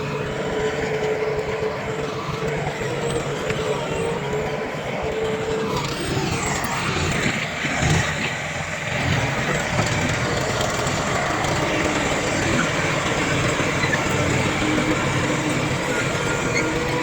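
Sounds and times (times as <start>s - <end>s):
heavy machinery diesel engines rumbling: 0.0s - 17.0s.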